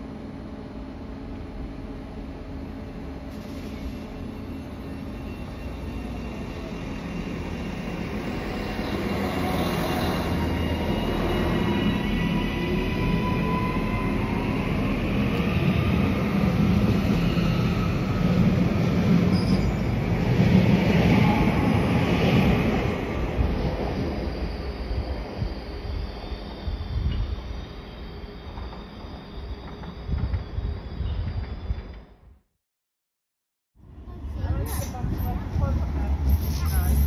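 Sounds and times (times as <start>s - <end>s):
train rumble on track: 0.0s - 32.5s, 33.8s - 37.0s
rail wheels squealing: 3.3s - 32.3s, 36.2s - 37.0s.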